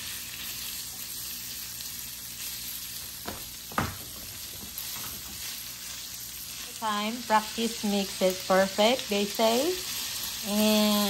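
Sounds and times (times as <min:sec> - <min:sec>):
ham sizzling in a pan: 0:00.0 - 0:11.0.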